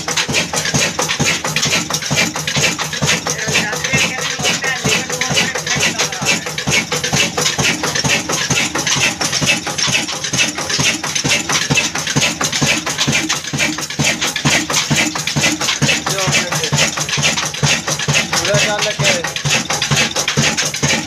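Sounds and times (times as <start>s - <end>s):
diesel engine knocking steadily: 0.0s - 21.0s.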